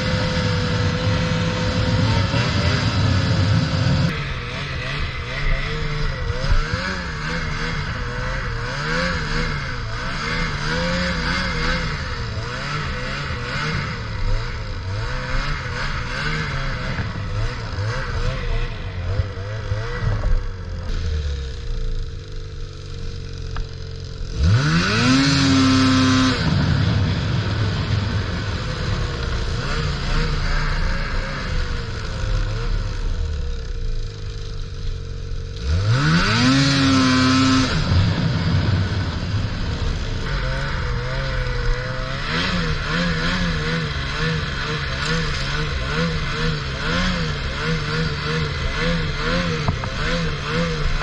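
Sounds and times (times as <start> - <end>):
snowmobile engine revving: 0.0 - 51.0.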